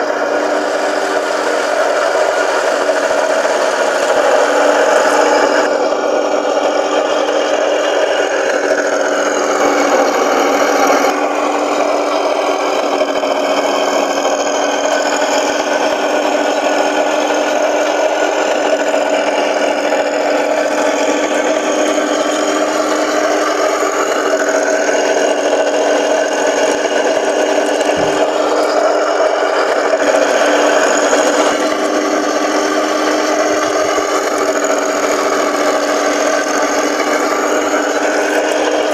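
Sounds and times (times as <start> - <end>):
electric motor whine: 0.0 - 38.9
simulated tank engine sound: 0.0 - 38.9
tracks rattling on paving: 0.0 - 38.9.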